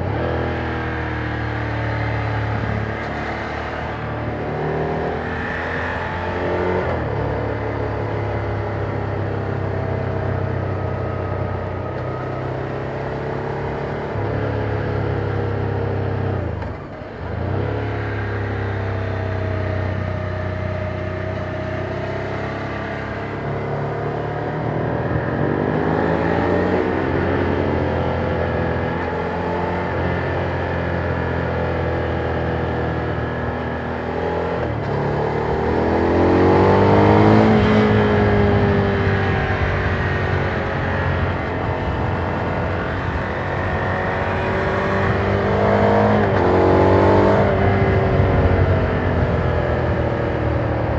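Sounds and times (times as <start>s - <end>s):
motorcycle engine riding along: 0.0s - 50.9s.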